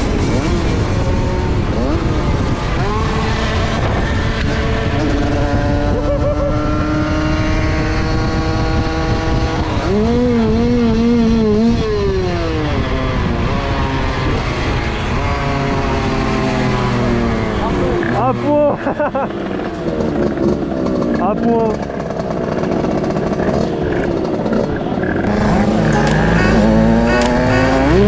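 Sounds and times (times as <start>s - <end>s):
two-stroke dirt bike engines revving: 0.0s - 28.0s.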